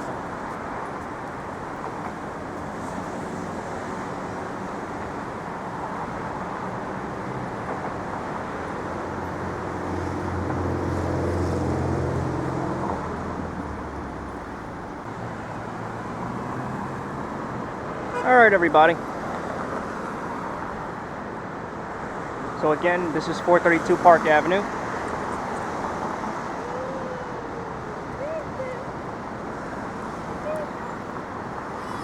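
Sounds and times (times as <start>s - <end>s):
hum of passing cars: 0.0s - 32.0s.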